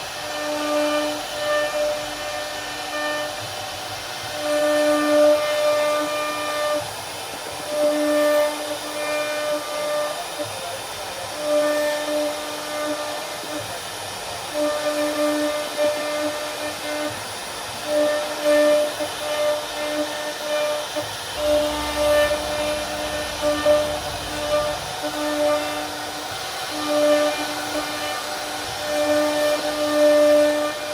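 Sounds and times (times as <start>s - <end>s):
hiss of wood cutting: 0.0s - 30.9s
router spindle whine: 0.0s - 30.9s.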